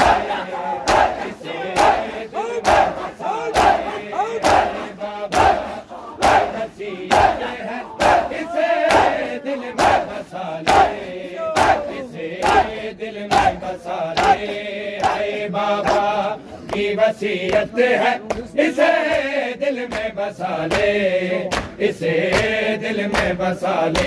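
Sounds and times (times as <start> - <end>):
chest beating slaps in unison: 0.0 - 19.3, 19.9 - 24.0
crowd of voices chanting: 0.0 - 24.0.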